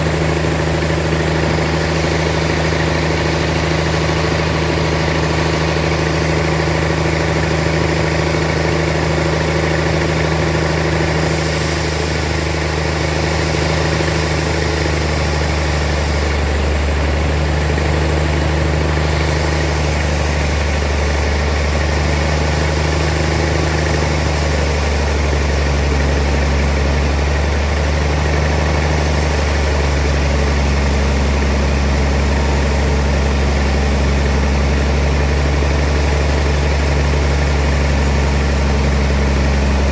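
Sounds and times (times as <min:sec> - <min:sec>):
sawmill machinery engine humming: 0:00.0 - 0:39.9.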